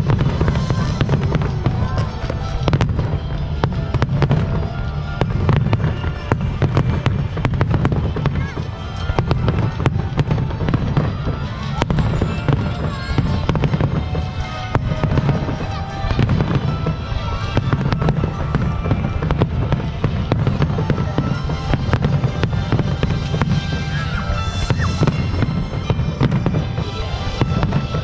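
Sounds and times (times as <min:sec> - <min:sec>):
fireworks bangs and crackles: 0:00.0 - 0:28.0
music playing: 0:00.0 - 0:28.0.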